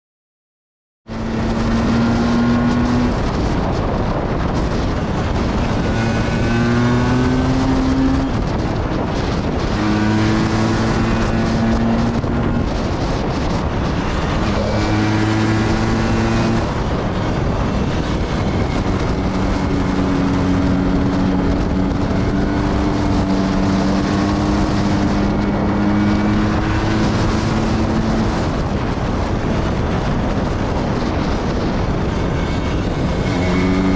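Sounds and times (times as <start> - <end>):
motorcycle engine revving: 1.1 - 33.9
wind noise: 1.1 - 33.9.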